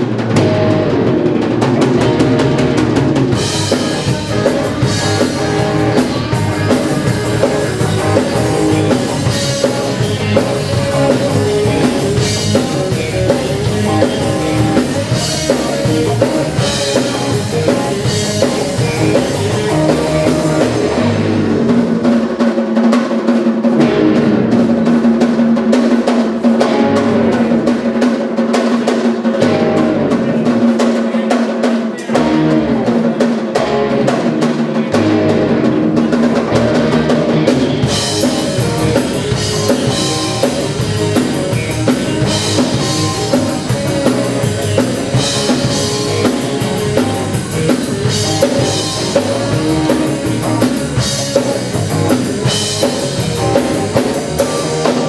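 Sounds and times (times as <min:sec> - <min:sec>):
electric bass: 0:00.0 - 0:22.4, 0:23.7 - 0:25.7, 0:26.6 - 0:27.8, 0:29.4 - 0:30.6, 0:32.1 - 0:55.0
drum kit: 0:00.0 - 0:55.0
electric guitar: 0:00.0 - 0:55.0
keyboard: 0:00.0 - 0:55.0.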